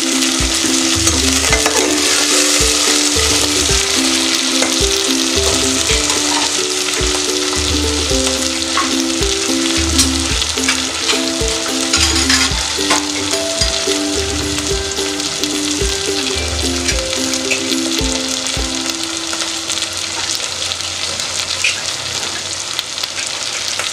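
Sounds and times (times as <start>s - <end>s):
onions sizzling in oil: 0.0s - 23.9s.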